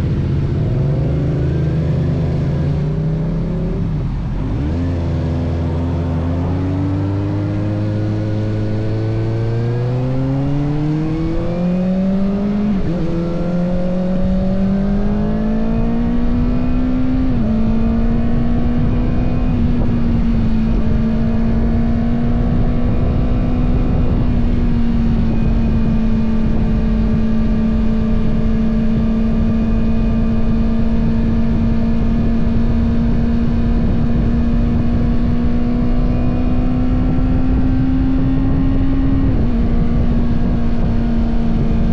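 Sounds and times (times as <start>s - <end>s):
motorcycle engine accelerating: 0.0s - 41.9s
wind and road noise: 0.0s - 41.9s.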